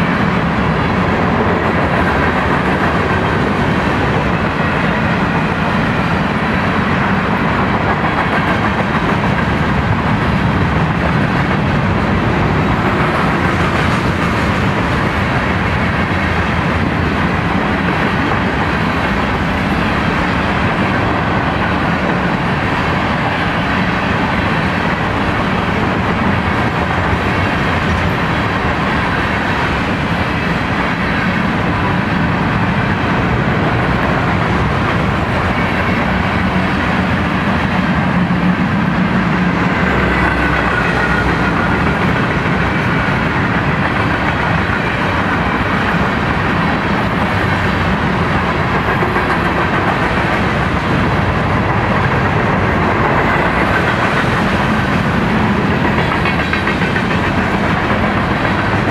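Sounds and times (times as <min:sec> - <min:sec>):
freight train wheels rumbling: 0:00.0 - 0:58.9.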